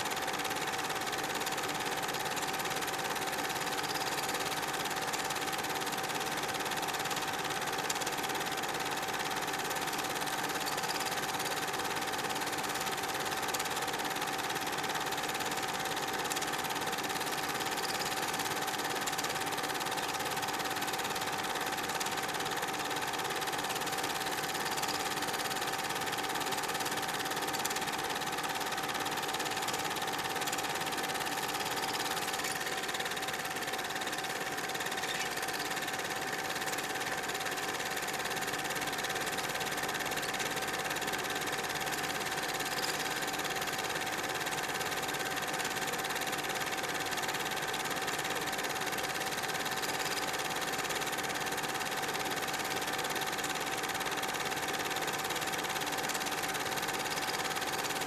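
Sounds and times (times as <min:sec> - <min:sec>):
film projector whirring: 0:00.0 - 0:58.0.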